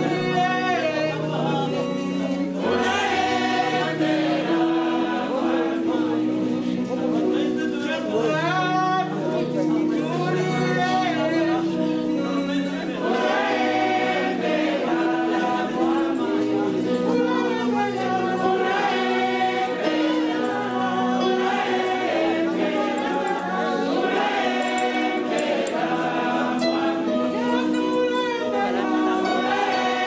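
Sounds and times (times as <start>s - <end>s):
choir singing: 0.0s - 9.4s, 10.2s - 30.0s.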